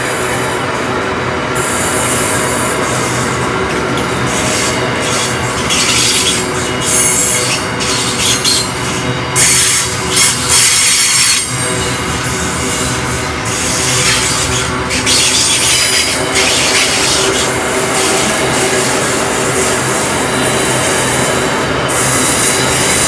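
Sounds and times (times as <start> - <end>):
train wheels rumbling on rail: 0.0 - 23.0
wheels screeching against rail: 1.6 - 23.0
steady squealing tones: 4.0 - 23.0.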